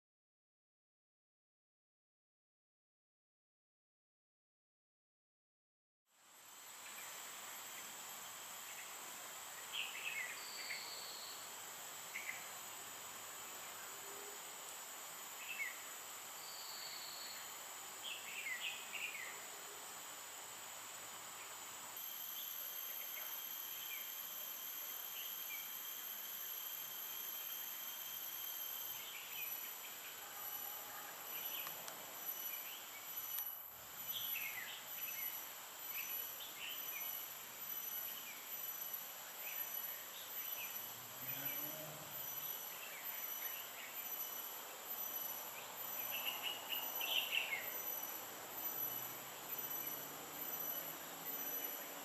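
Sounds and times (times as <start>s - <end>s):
high-pitched insect drone: 6.2s - 52.0s.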